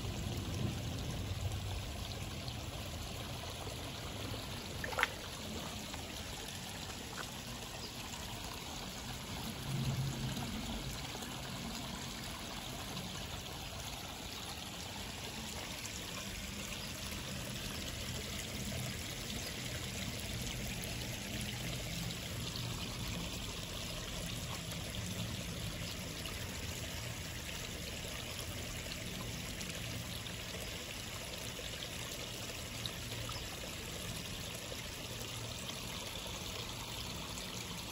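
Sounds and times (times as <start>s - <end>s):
water pouring into a pond: 0.0s - 37.9s.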